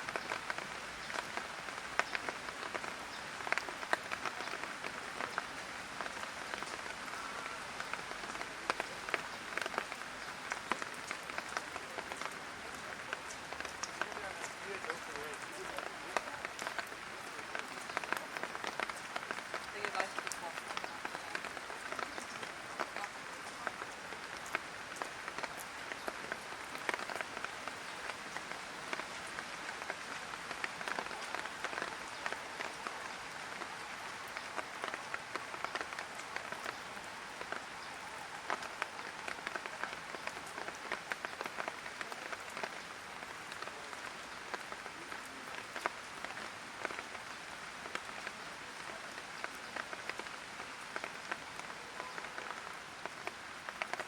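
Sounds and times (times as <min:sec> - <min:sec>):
light rain pattering on hard surfaces: 0:00.0 - 0:54.0.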